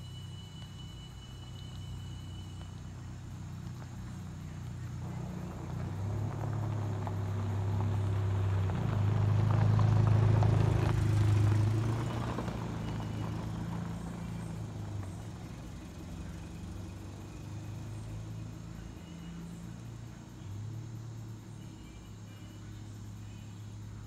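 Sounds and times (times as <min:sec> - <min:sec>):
vehicle passing by: 0:00.0 - 0:24.0.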